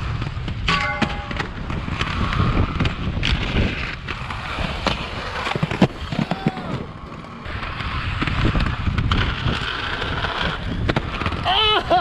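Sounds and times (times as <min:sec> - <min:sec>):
skate wheels rolling on concrete: 0:00.0 - 0:12.0.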